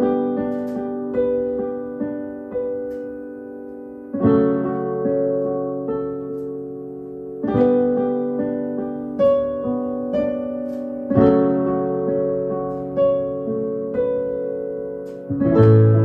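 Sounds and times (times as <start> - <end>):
slow keyboard chords: 0.0 - 16.0.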